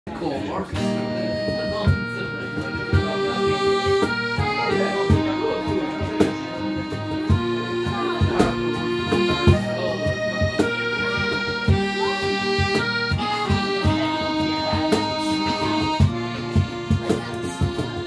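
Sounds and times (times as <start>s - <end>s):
strummed acoustic guitar: 0.1s - 18.0s
cajon beat: 0.2s - 18.0s
accordion playing slow melody: 0.8s - 18.0s.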